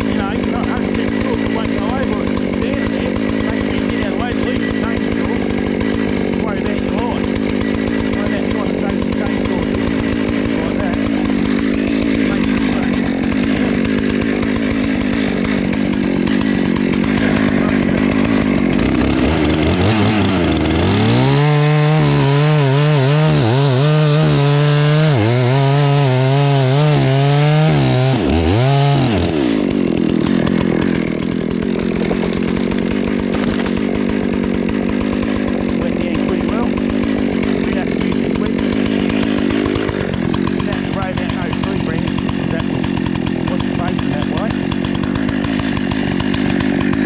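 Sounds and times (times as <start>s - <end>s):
chainsaw idling and revving: 0.0s - 47.0s.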